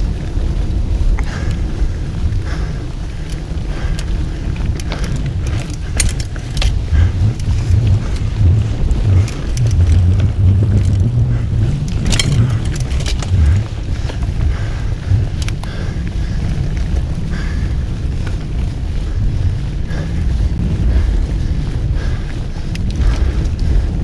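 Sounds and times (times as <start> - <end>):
bike rattles and clicks: 0.0 - 24.0
bike tyre noise: 0.0 - 24.0
wind rumble on microphone: 0.0 - 24.0.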